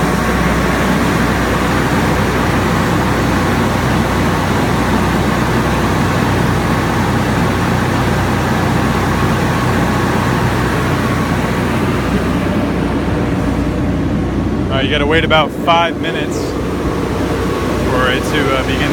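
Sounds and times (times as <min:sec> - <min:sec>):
air-conditioning unit air rush: 0:00.0 - 0:18.9
low hum: 0:00.0 - 0:18.9.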